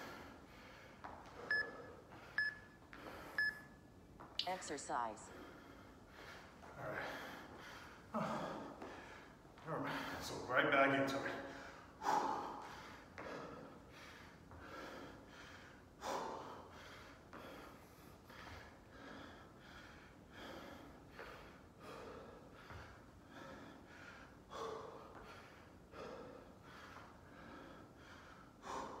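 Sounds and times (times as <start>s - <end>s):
person breathing hard: 0.0s - 3.6s, 5.3s - 10.3s, 11.4s - 29.0s.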